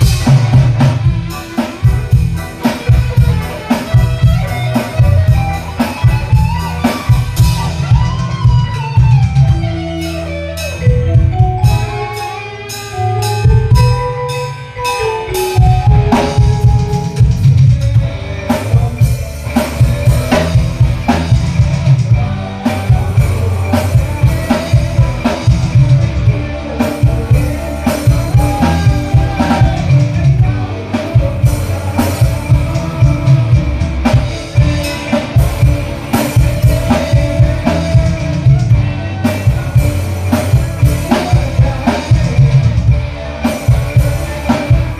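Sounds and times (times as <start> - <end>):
band playing a steady beat: 0.0 - 44.9
melodic line: 0.0 - 44.9.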